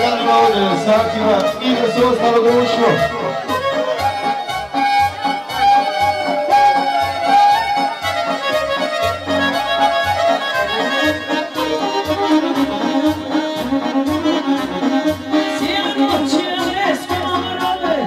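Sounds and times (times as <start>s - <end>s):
bass beat: 0.0s - 18.0s
live folk band with accordion: 0.0s - 18.0s.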